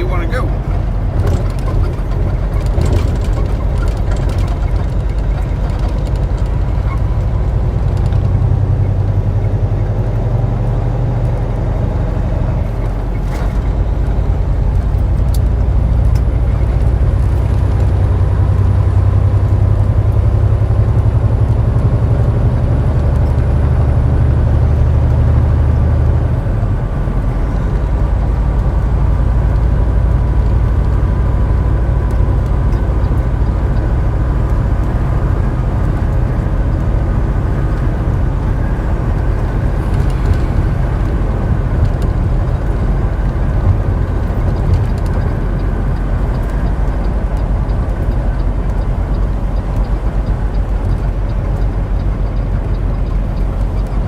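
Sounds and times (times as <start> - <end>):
diesel truck engine drone: 0.0 - 54.0
road noise: 0.0 - 54.0.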